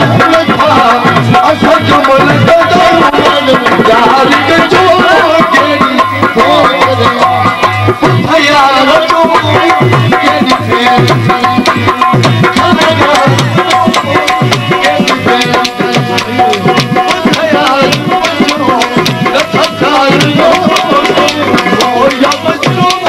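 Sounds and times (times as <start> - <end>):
dholak drum beat: 0.0 - 23.0.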